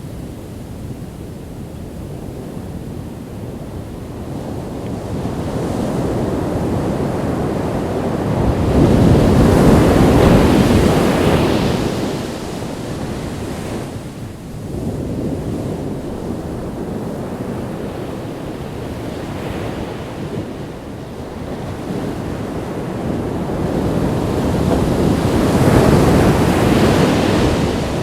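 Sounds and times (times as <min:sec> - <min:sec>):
wind on microphone: 0:00.0 - 0:28.0
ocean waves breaking: 0:03.7 - 0:28.0.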